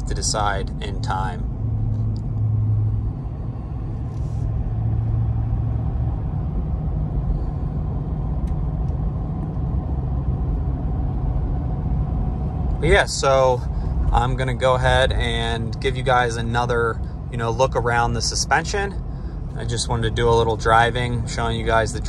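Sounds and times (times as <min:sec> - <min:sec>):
pickup engine and road noise: 0:00.0 - 0:22.0.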